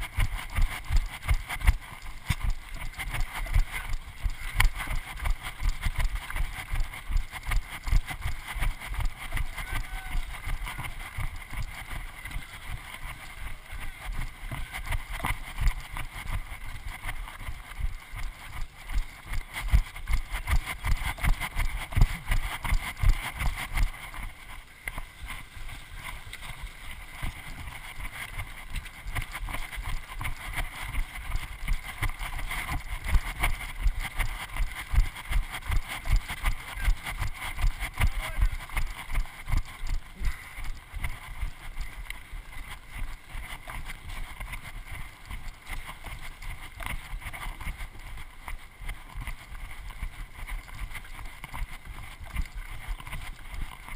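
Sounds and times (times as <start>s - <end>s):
footfalls on dirt trail: 0.0s - 53.9s.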